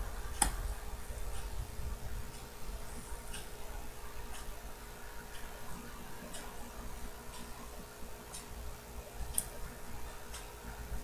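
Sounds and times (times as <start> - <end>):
faint ticking: 0.0 - 11.0
low room rumble: 0.0 - 11.0.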